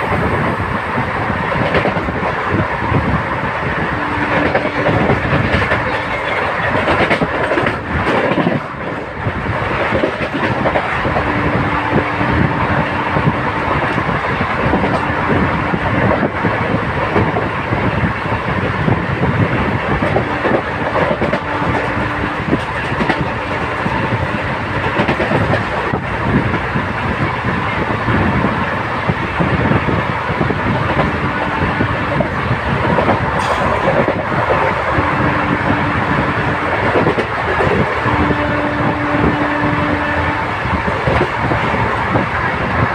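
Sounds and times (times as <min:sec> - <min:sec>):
train wheels rumbling on track: 0:00.0 - 0:42.9.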